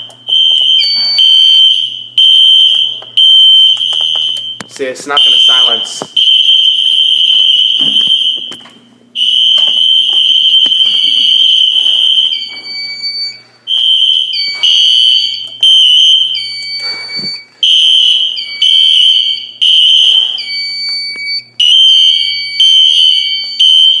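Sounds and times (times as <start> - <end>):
fire alarm horn: 0.0 - 8.6, 9.2 - 24.0.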